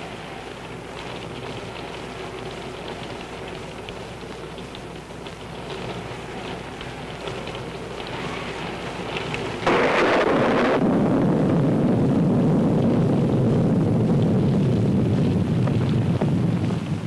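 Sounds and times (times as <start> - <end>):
rain falling: 0.0 - 17.0
thunderclap and rumble: 0.0 - 17.0.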